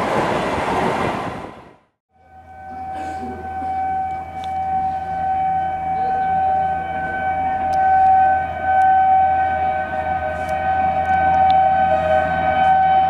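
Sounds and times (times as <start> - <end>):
low train rumble: 0.0 - 13.0
locomotive horn blast: 2.2 - 13.0.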